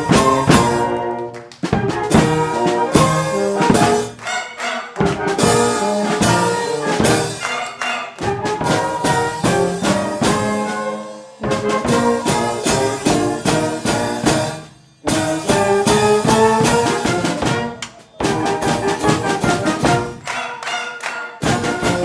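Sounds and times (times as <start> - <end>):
wind band with brass: 0.0 - 22.0.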